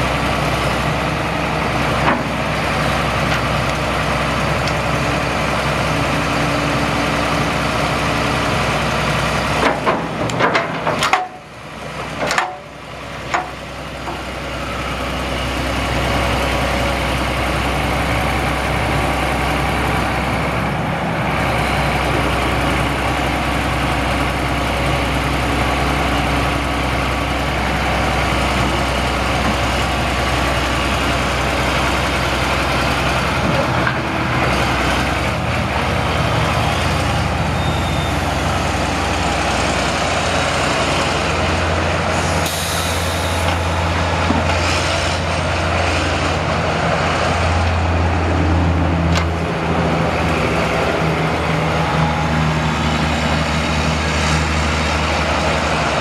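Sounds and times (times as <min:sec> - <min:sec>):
diesel engine drone: 0:00.0 - 0:56.0.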